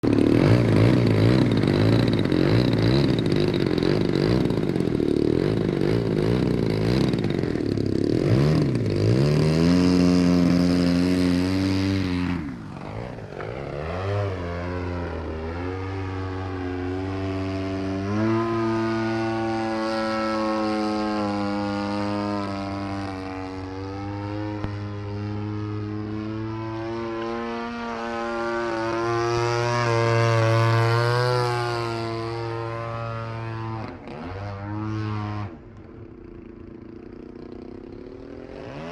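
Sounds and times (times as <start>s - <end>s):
model plane engine running: 0.0s - 38.9s.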